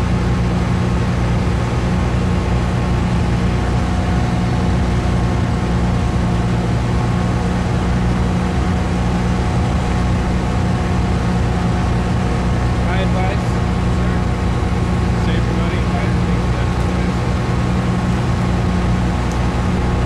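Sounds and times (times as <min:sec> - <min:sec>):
engine running at low revs: 0:00.0 - 0:20.0.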